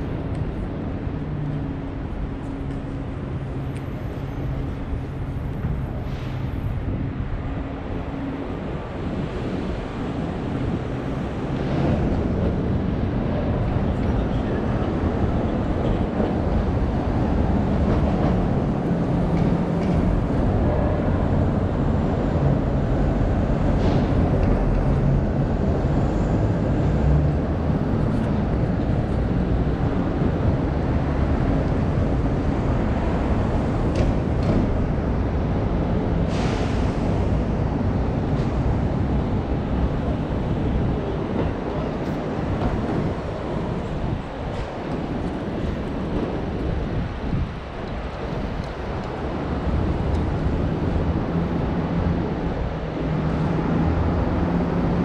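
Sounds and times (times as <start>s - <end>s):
city street traffic rumble: 0.0s - 55.0s.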